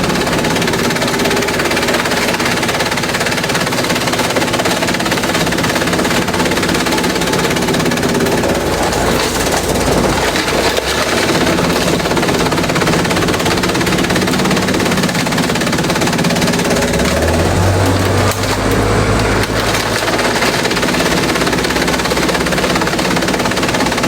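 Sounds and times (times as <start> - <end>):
motor drone: 0.0 - 24.0.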